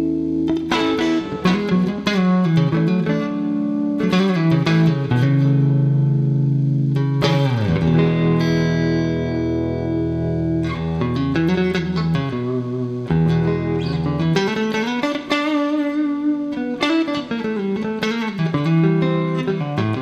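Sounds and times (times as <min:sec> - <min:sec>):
electric guitar chords and notes: 0:00.0 - 0:20.0.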